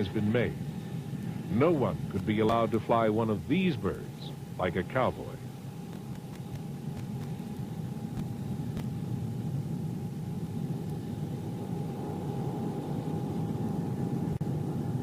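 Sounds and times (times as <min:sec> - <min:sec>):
jet engine whine: 0:00.0 - 0:15.0
jet engines rumbling: 0:00.0 - 0:15.0.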